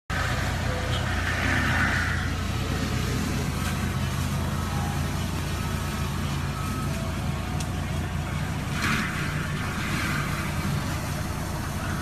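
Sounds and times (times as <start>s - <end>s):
diesel engine running: 0.1s - 12.0s
high rushing whine: 0.1s - 12.0s.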